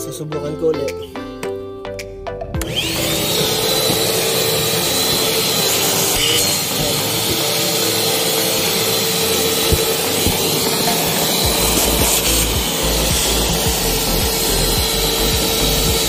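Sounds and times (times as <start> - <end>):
vacuum cleaner running: 2.6 - 16.0.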